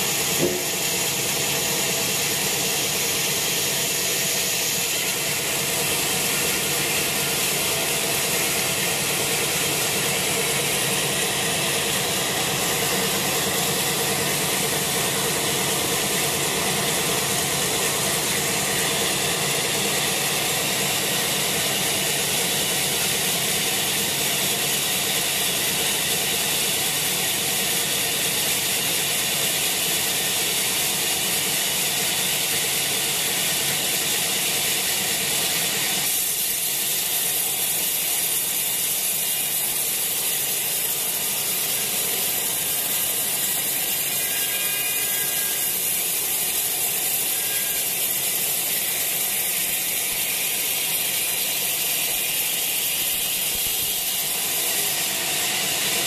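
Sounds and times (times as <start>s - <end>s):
band saw whining through log: 0.0s - 56.0s.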